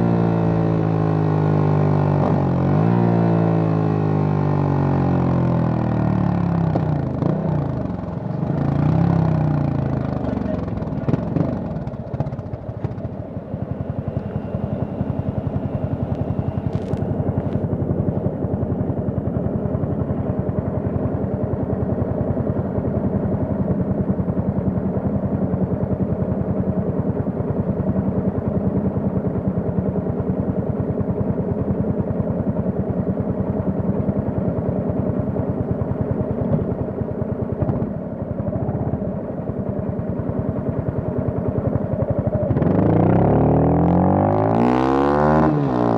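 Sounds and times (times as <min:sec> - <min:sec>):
motorcycle engine riding: 0:00.0 - 0:45.9.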